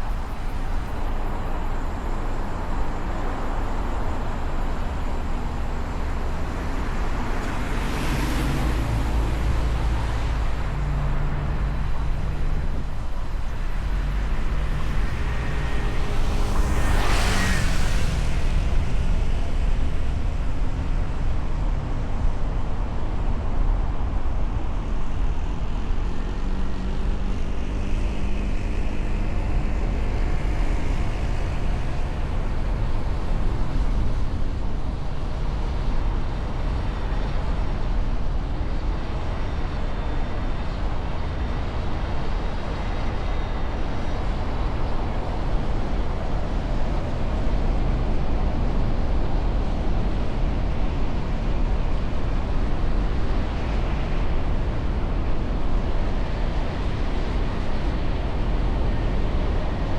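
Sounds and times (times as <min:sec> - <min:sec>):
vehicle road and engine noise: 0:00.0 - 0:59.9.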